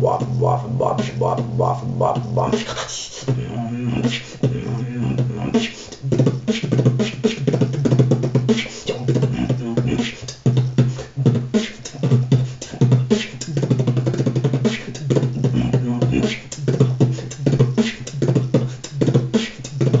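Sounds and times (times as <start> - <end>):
person beatboxing: 0.0 - 20.0.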